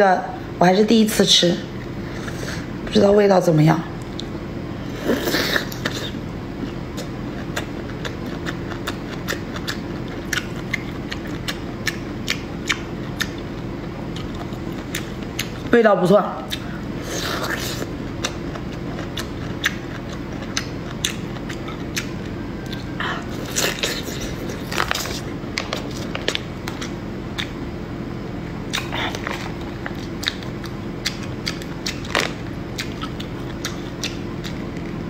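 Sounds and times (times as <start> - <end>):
steady low hum: 0.0 - 35.0
chewing and crunching: 5.1 - 15.7, 16.4 - 27.6, 28.5 - 35.0.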